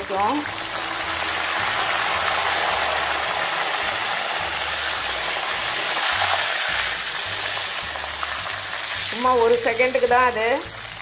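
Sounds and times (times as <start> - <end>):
banana slices deep-frying in oil: 0.0 - 11.0.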